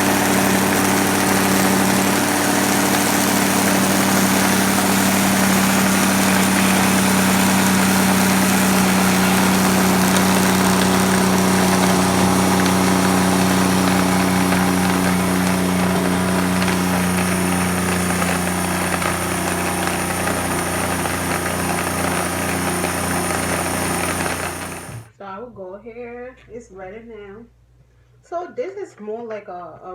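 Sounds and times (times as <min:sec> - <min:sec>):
blender motor running: 0:00.0 - 0:25.1.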